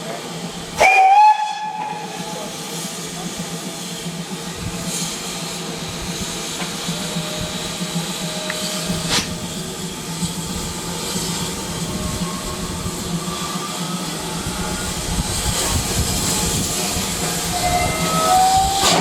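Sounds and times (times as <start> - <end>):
rumble and hiss of moving train: 0.0 - 19.0.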